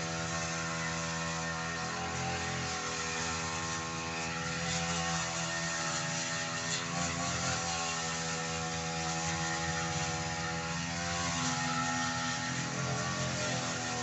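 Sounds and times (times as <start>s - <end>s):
brush cutter engine cutting grass: 0.0s - 14.0s.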